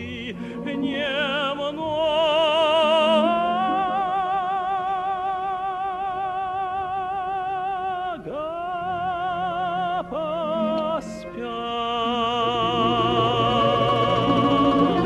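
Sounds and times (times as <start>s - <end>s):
choral and orchestral accompaniment: 0.0s - 15.0s
tenor singing with vibrato: 0.0s - 15.0s.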